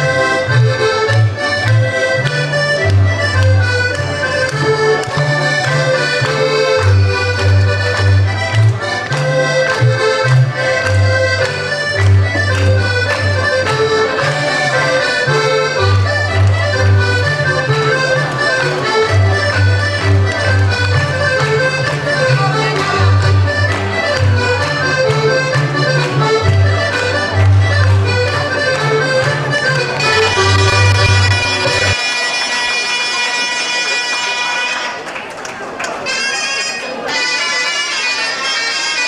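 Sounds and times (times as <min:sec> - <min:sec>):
accordion folk dance tune: 0:00.0 - 0:35.2, 0:35.8 - 0:39.0.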